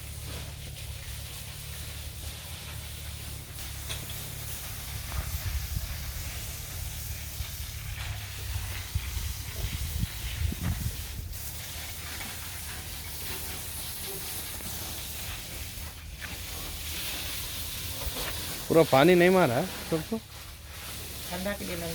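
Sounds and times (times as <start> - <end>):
hose water jet hissing: 0.0 - 21.9.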